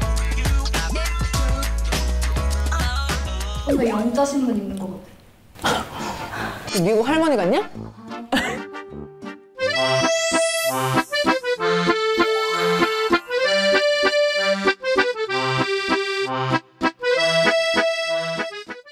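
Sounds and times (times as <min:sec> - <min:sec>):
cheerful instrumental music: 0:00.0 - 0:04.2, 0:07.6 - 0:18.9.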